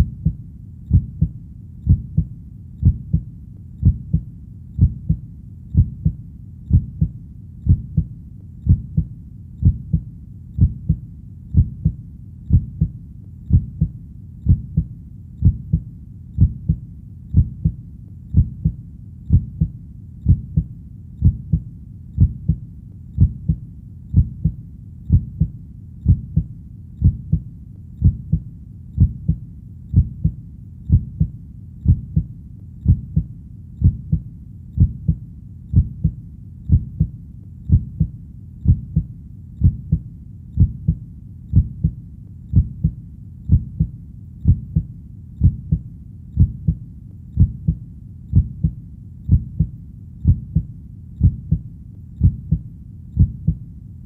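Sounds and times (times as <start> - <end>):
heartbeat thumps: 0.0 - 22.6, 23.2 - 53.6.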